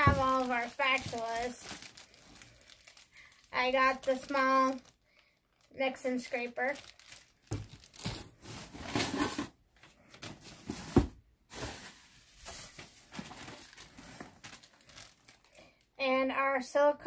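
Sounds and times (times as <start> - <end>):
packaging rustling and crinkling: 0.0 - 15.9.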